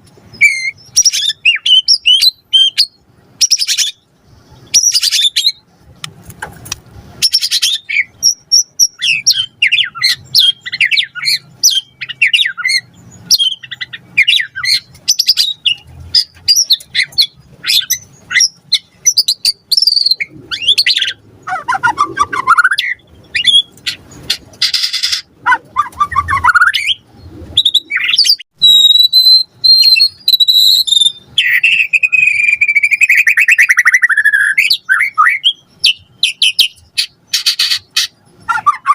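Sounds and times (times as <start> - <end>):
bird singing chirps and whistles: 0.3 - 5.6, 7.2 - 38.9.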